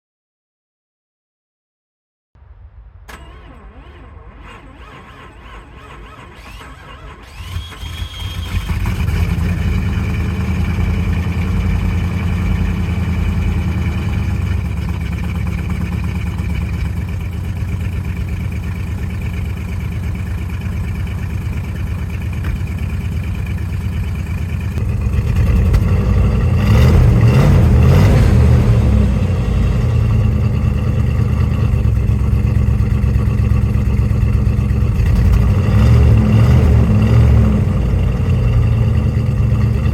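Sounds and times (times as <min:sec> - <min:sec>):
car engine starting and idling: 0:02.4 - 0:39.9.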